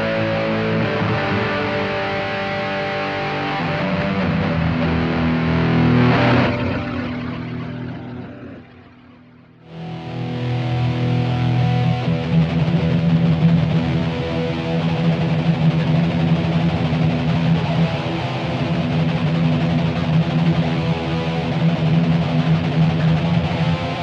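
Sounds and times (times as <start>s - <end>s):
electric guitar with delay: 0.0s - 24.0s.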